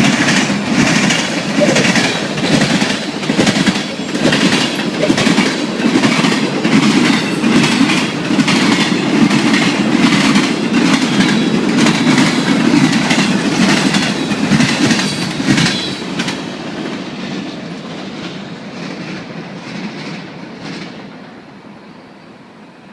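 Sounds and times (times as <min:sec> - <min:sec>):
train wheels clicking over rails: 0:00.0 - 0:21.5.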